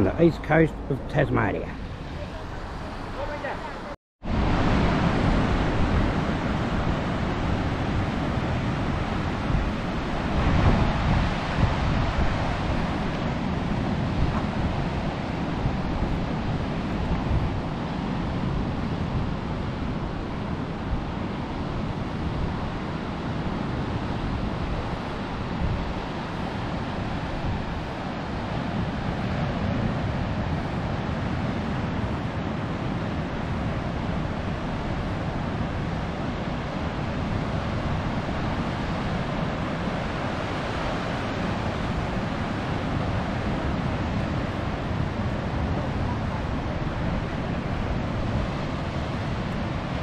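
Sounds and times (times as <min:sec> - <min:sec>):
wind buffeting microphone: 0:00.0 - 0:50.0
surf breaking on beach: 0:01.8 - 0:50.0.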